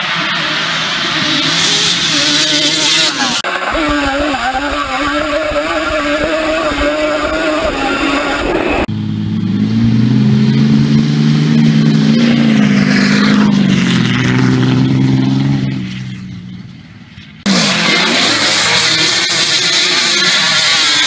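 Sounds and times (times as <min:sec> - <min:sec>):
loud engine: 0:00.0 - 0:21.0.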